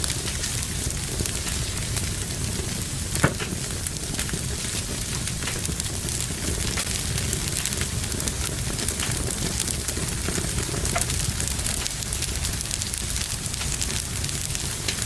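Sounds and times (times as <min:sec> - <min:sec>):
fire crackling and popping: 0:00.0 - 0:15.0
wood fire rumbling and hissing: 0:00.0 - 0:15.0.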